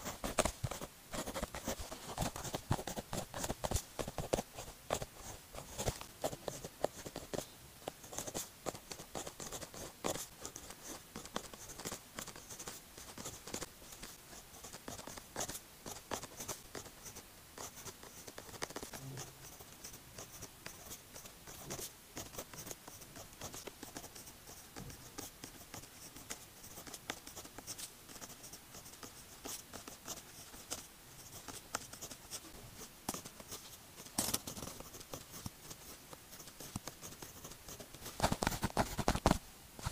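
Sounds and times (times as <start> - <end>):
pen nib scratching on paper: 0.0 - 39.9.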